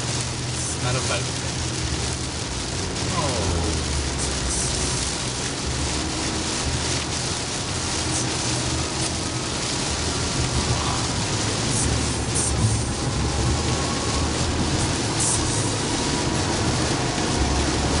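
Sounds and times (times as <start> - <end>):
heavy rain on car windshield: 0.0 - 18.0
tyres rumbling on wet road: 0.0 - 18.0.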